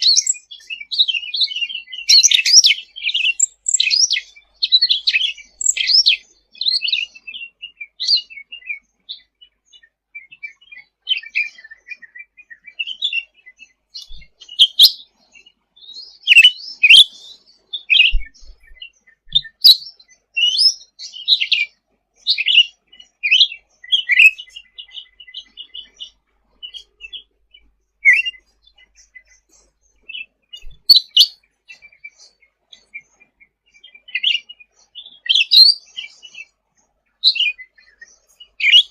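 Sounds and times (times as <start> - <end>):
bird chirping and trilling: 0.0 - 15.1, 15.8 - 36.5, 37.2 - 38.9.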